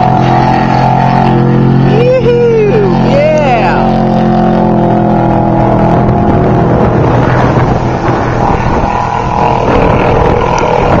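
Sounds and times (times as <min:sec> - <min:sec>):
rough engine running loudly: 0:00.0 - 0:11.0.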